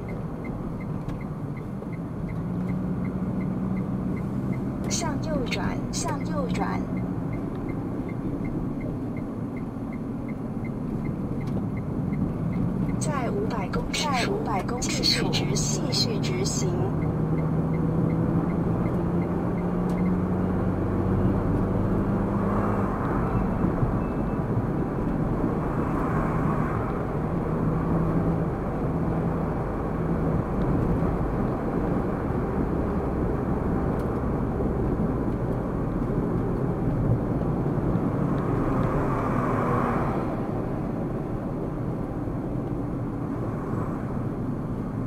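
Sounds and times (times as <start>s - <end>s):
low engine hum: 0.0s - 45.0s
road and tyre rumble: 0.0s - 45.0s.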